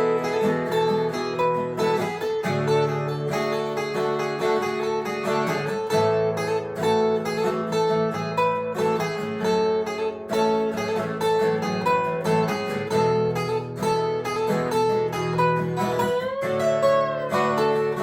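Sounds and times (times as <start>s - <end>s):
lead guitar line: 0.0s - 18.0s
strummed acoustic guitar: 0.0s - 18.0s.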